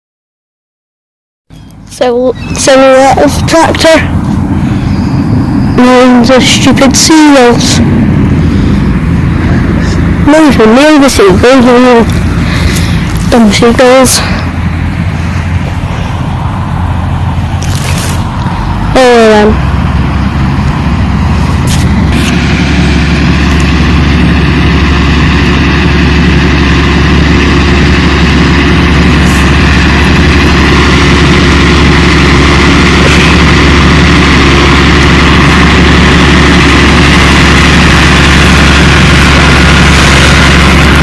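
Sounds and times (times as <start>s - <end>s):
tractor engine droning: 1.5s - 41.0s.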